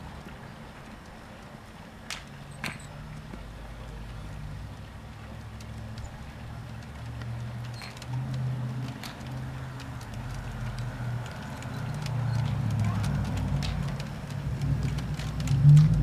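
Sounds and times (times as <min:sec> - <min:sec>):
diesel train engine rumble: 0:00.0 - 0:16.0.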